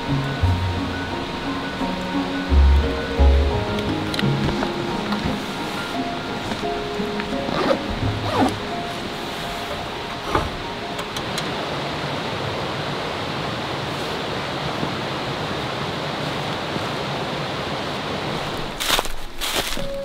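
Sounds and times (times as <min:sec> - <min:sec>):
rushing outdoor ambience: 0:00.0 - 0:20.0.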